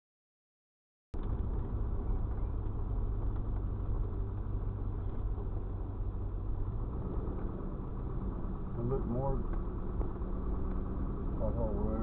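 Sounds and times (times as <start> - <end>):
vehicle on gravel road: 1.2 - 12.0.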